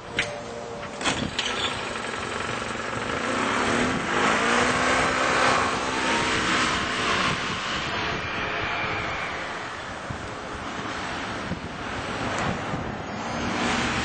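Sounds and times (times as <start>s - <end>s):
utility cart engine running: 0.0s - 13.0s.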